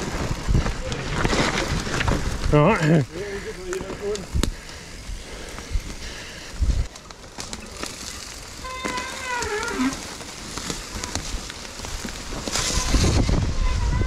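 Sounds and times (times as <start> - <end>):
bike rattling and knocking: 0.0 - 14.0
bike tyres rolling on mud: 0.0 - 14.0.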